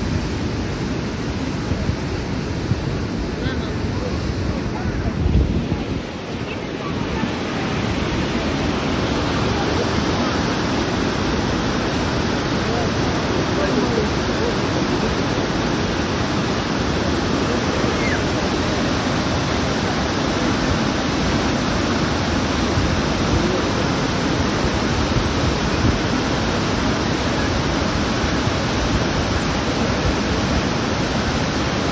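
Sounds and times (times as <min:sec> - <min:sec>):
small waterfall rushing: 0:00.0 - 0:31.9.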